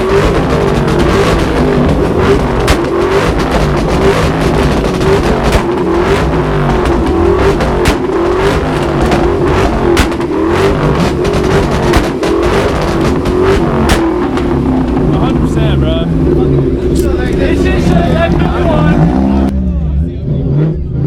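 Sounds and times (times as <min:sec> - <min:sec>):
exhaust pops and bangs: 0:00.0 - 0:19.5
car engines revving hard: 0:00.0 - 0:21.0.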